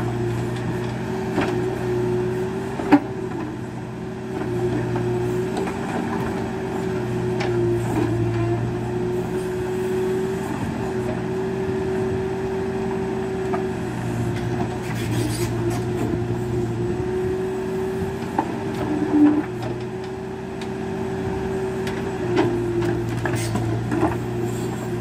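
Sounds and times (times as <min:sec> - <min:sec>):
diesel engine running with whine: 0:00.0 - 0:25.0.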